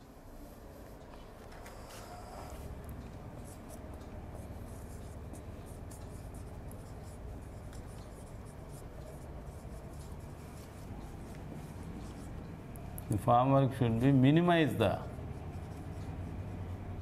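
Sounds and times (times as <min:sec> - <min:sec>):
marker scratching on whiteboard: 0:00.4 - 0:12.6, 0:15.0 - 0:17.0.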